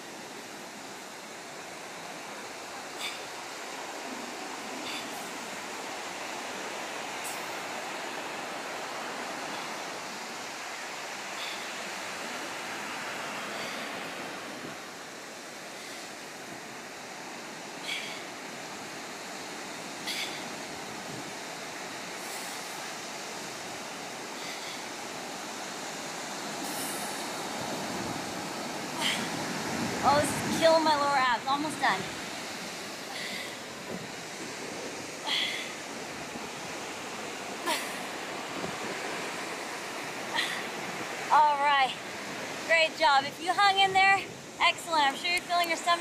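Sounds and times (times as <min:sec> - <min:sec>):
ocean surf rushing: 0:00.0 - 0:46.0.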